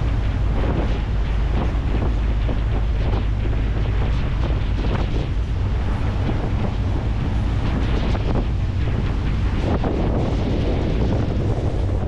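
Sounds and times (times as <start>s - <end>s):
ferry engine rumble: 0.0s - 12.0s
rushing water: 0.0s - 12.0s
wind buffeting microphone: 0.0s - 12.0s.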